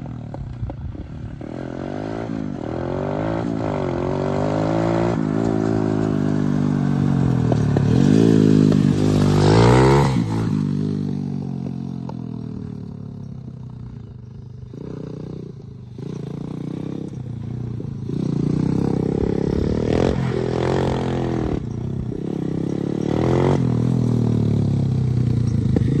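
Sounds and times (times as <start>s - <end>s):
quad bike engine revving: 0.0s - 14.0s, 14.6s - 26.0s.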